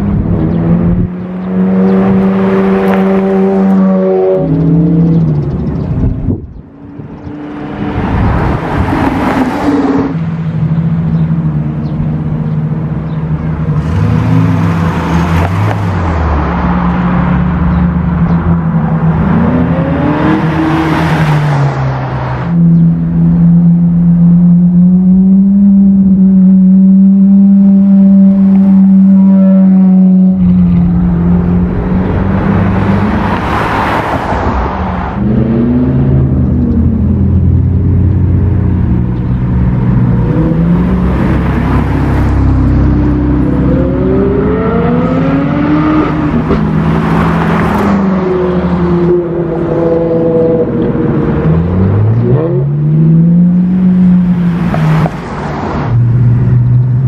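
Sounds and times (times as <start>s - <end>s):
sports cars driving past: 0.0s - 57.0s.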